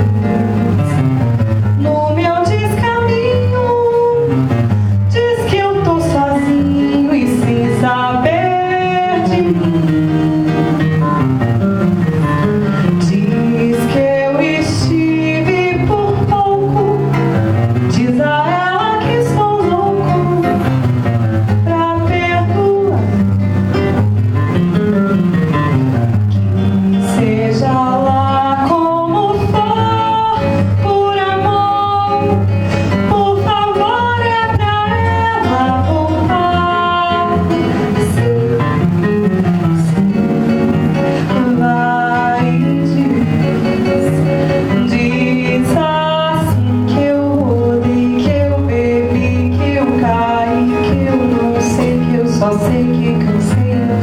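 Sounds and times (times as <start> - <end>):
acoustic guitar playing: 0.0 - 54.0
woman singing: 1.7 - 11.2, 12.6 - 24.0, 26.6 - 54.0.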